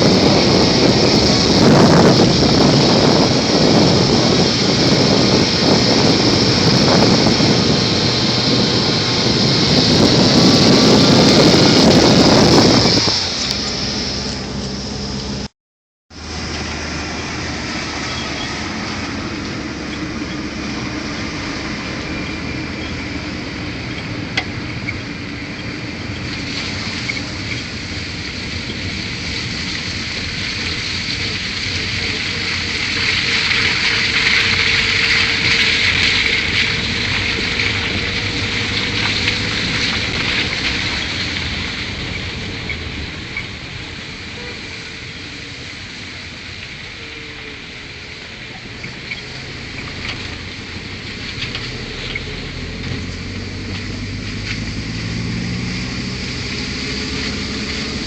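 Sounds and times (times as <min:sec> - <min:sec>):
vehicle driving on rough road: 0:00.0 - 0:15.5, 0:16.1 - 0:58.0.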